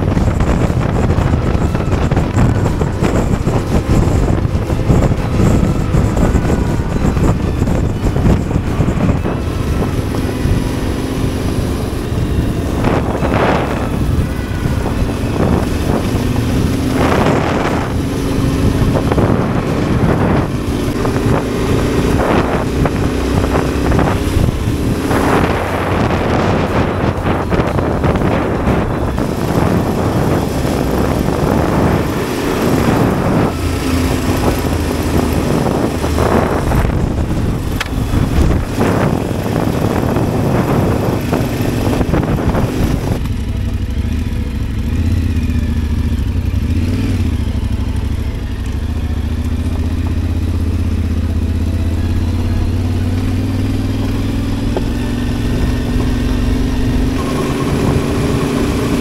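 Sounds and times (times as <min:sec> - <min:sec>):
heavy rushing noise: 0:00.0 - 0:59.0
motorcycle engine running: 0:00.0 - 0:59.0.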